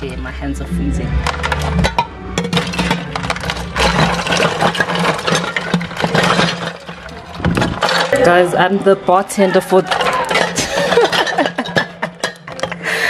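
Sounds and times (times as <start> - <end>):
bottles and cans clinking: 1.2 - 13.0.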